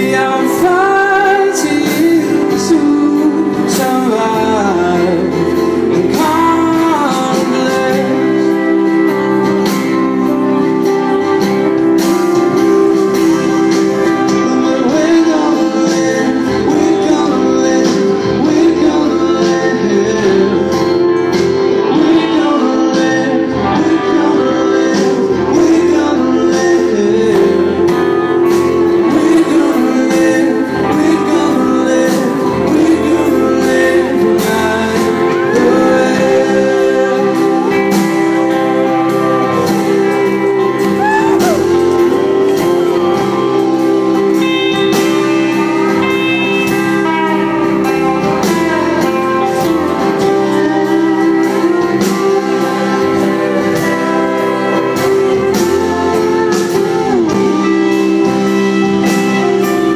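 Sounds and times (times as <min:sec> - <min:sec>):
live rock band: 0:00.0 - 0:59.9
person singing: 0:00.0 - 0:59.9.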